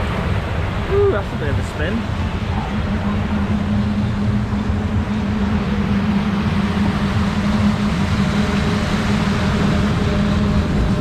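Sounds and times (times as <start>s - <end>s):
machinery hum: 0.0s - 11.0s
rushing water: 0.0s - 11.0s.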